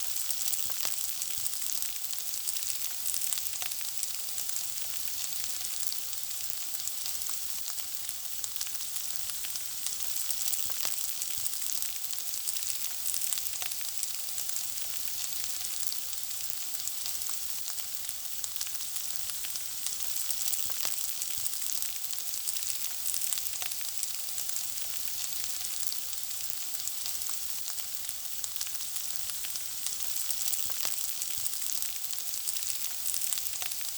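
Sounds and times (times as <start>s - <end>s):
food sizzling in hot oil: 0.0s - 33.9s.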